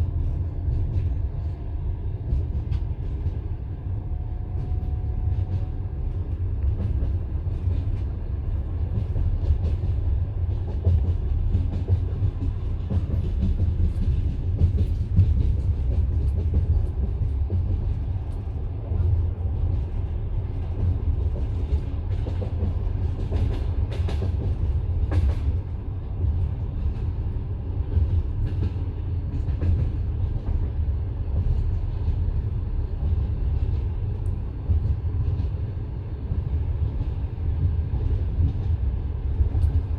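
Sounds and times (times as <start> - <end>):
train running gear rumble: 0.0 - 39.9.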